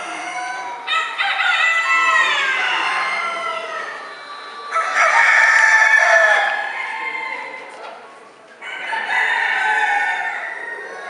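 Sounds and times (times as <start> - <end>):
rooster crowing: 0.0 - 7.6, 8.6 - 11.0.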